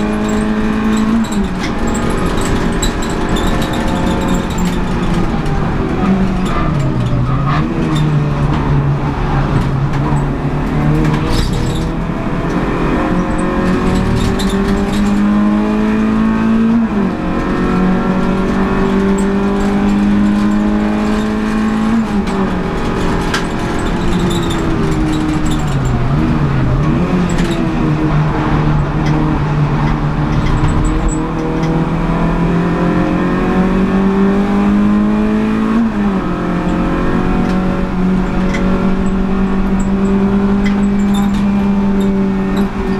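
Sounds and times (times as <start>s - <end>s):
car engine racing at full throttle: 0.0s - 42.9s.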